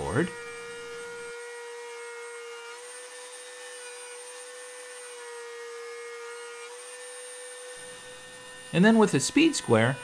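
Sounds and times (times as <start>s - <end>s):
router motor whine: 0.0s - 10.0s.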